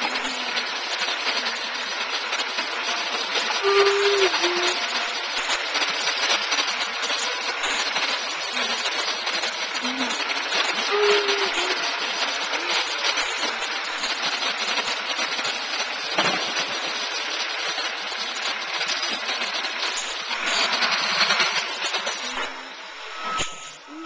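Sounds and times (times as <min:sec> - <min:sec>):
garbage truck engine running: 0:00.0 - 0:24.0
hydraulic lifting arm: 0:00.0 - 0:24.0.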